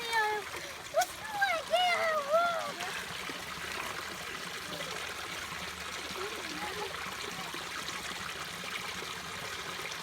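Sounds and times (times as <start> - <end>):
creek water trickling over rocks: 0.0 - 10.0.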